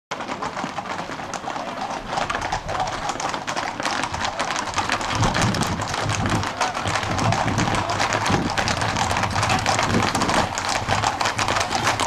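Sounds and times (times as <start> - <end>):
horse hooves clattering on asphalt: 0.1 - 12.0.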